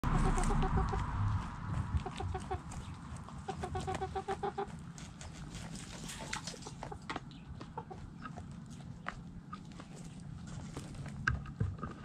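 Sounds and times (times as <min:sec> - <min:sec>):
chickens scratching in dry dirt: 0:00.0 - 0:12.0
hens clucking: 0:00.0 - 0:12.0.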